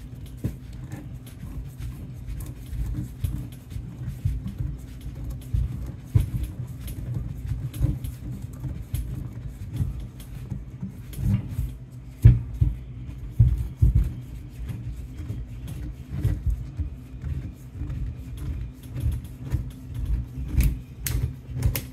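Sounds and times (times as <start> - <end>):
oil filter cutter creaking and scraping: 0.2 - 21.9.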